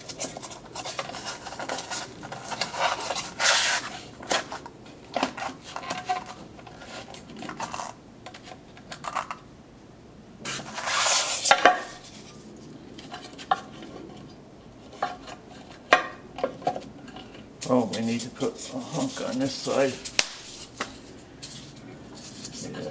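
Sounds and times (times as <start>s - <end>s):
rustling scrape: 0.0s - 7.9s, 10.4s - 15.8s, 17.0s - 22.9s.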